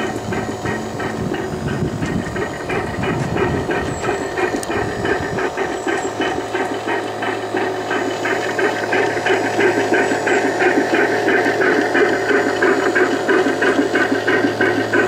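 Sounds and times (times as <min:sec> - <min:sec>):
electronic boat engine chugging: 0:00.0 - 0:15.0.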